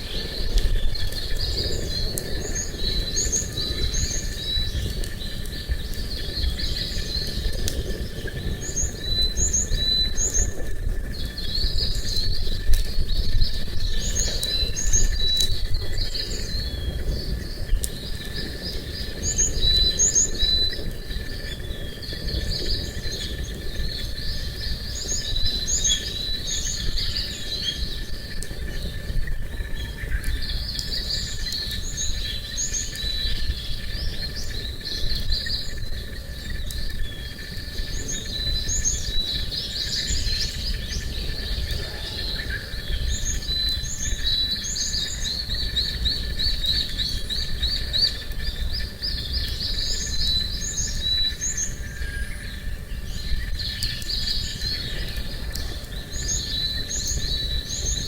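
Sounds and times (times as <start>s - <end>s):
faint high insect-like tone: 0.0s - 58.0s
small birds chirping: 0.0s - 58.0s.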